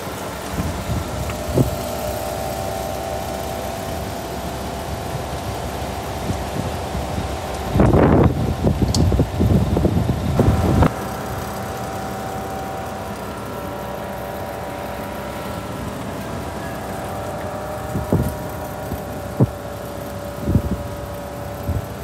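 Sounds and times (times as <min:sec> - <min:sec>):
constant whining tones: 0:00.0 - 0:22.0
truck engine idling: 0:00.0 - 0:22.0
wind buffeting microphone: 0:00.4 - 0:15.3, 0:15.9 - 0:22.0.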